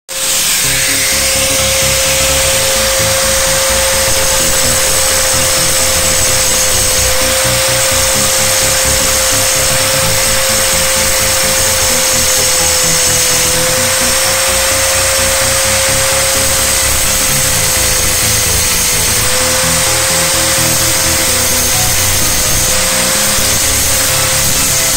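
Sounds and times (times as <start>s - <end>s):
angle grinder grinding metal: 0.1s - 24.9s.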